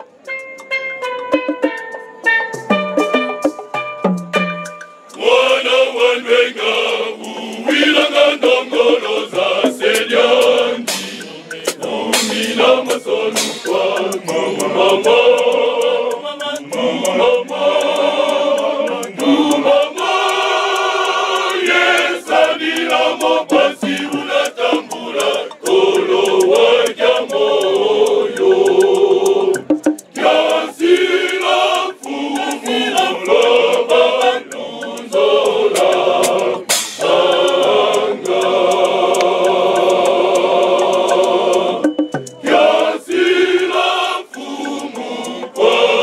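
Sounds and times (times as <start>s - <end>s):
sharp percussive hits: 0.4s - 46.0s
male choir singing in harmony: 5.2s - 46.0s.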